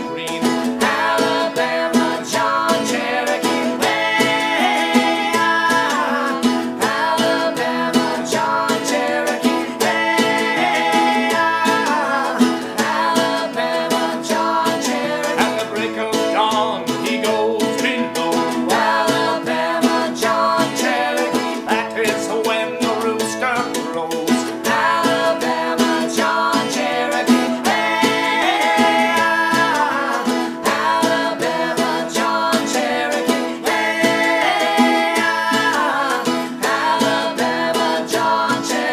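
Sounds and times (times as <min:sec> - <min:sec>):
banjo: 0:00.0 - 0:38.9
guitar: 0:00.0 - 0:38.9
mandolin: 0:00.0 - 0:38.9.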